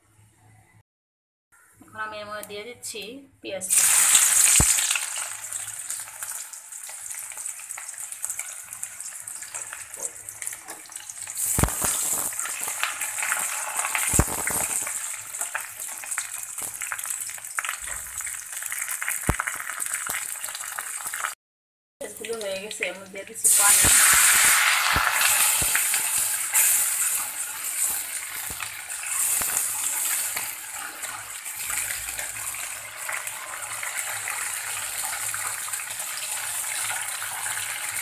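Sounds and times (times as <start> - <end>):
onion sizzling in oil: 3.7 - 21.4, 22.1 - 38.0.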